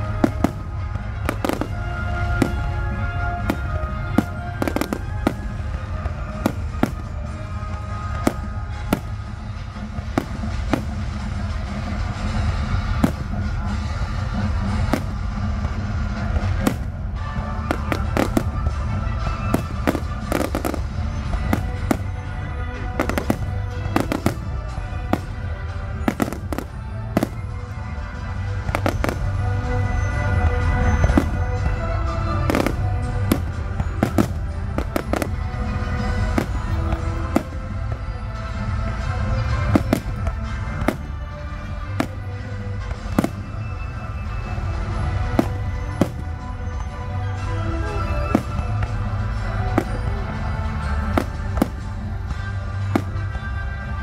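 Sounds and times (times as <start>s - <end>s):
fireworks bursting with bangs: 0.0s - 54.0s
music playing: 0.0s - 54.0s.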